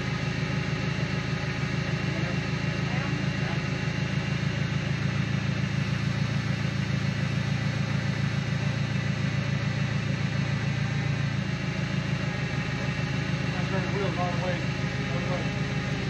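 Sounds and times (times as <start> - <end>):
motor running steadily: 0.0 - 16.0.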